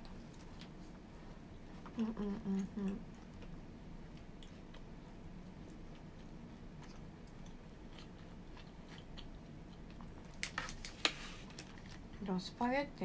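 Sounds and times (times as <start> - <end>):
quiet chewing: 0.0 - 12.3.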